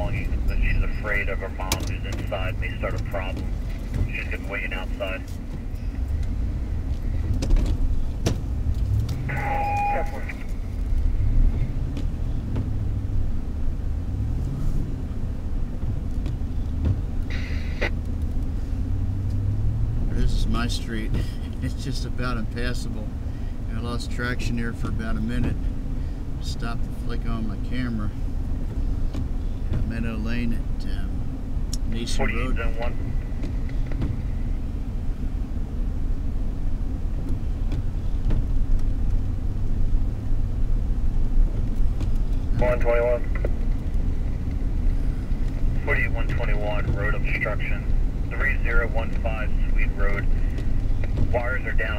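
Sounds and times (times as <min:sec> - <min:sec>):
car rumbling on snow: 0:00.0 - 0:51.9.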